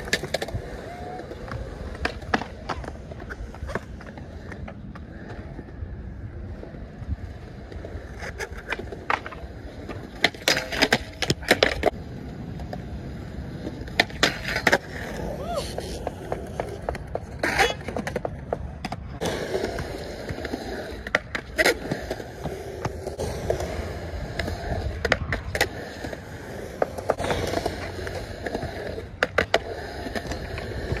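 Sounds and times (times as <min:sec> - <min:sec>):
skateboard deck clacking: 0:00.0 - 0:31.0
skateboard wheels rolling on concrete: 0:00.0 - 0:31.0.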